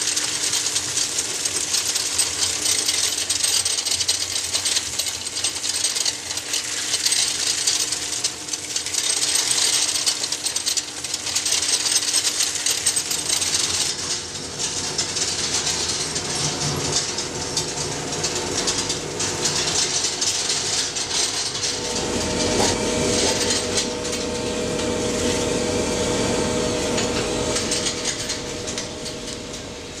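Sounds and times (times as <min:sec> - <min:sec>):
machine hum with low rumble: 0:00.0 - 0:30.0.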